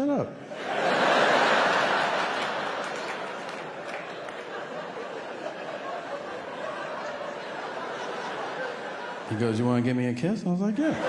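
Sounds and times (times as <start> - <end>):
audience laughing: 0.4 - 9.8, 10.8 - 11.0.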